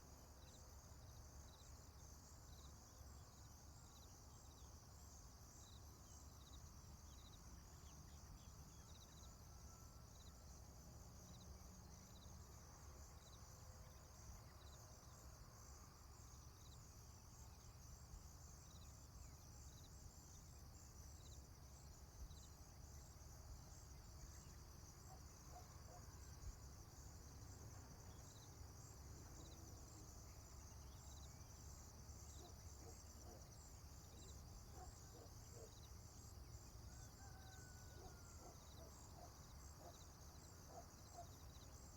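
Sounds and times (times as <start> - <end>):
insects trilling: 0.4 - 41.9.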